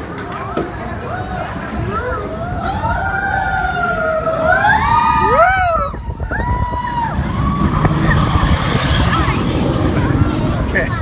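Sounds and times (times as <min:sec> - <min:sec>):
coaster train rumbling on track: 0:00.0 - 0:11.0
riders screaming and whooping: 0:01.0 - 0:11.0.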